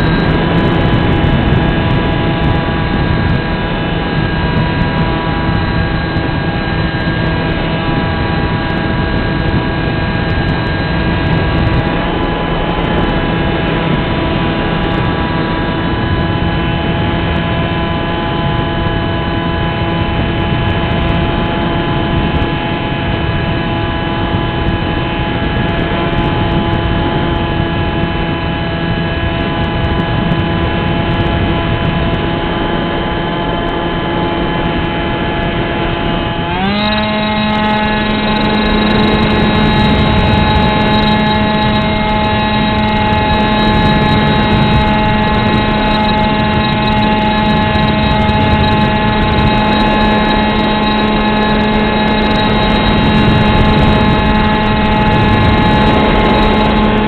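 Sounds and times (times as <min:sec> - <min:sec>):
model plane motor whine: 0:00.0 - 0:57.0
wind noise: 0:00.0 - 0:57.0.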